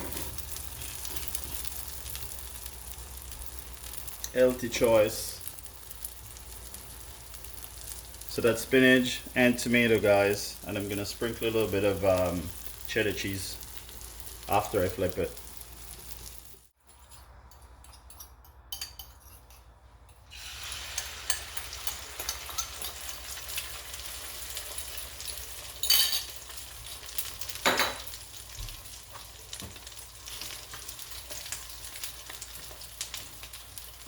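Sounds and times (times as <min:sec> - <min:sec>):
food sizzling in oil: 0:00.0 - 0:16.8, 0:20.3 - 0:34.0.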